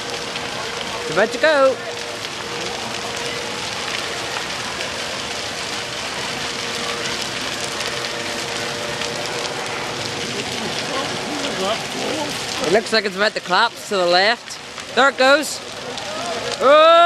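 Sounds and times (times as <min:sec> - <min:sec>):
bonfire crackling: 0:00.0 - 0:17.0.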